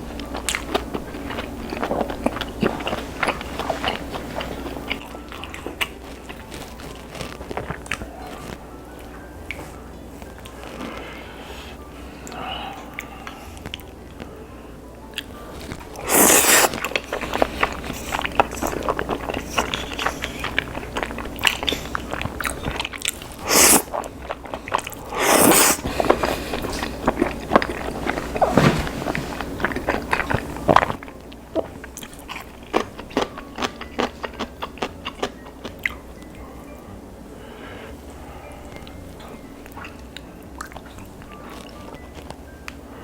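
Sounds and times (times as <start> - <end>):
chewing: 0.0 - 14.4, 15.0 - 36.8, 37.6 - 42.9.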